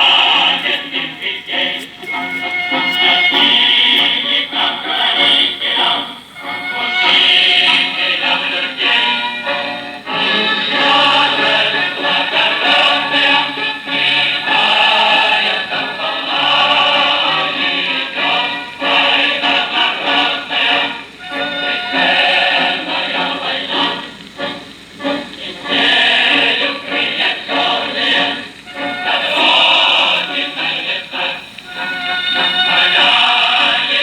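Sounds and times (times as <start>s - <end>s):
choir singing with accompaniment: 0.0s - 34.0s.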